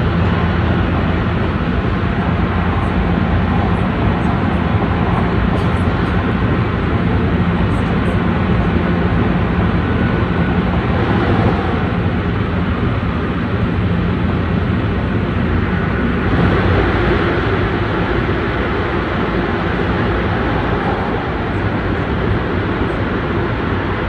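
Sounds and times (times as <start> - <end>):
low train hum: 0.0 - 24.0
train wheels rushing on rail: 0.0 - 24.0.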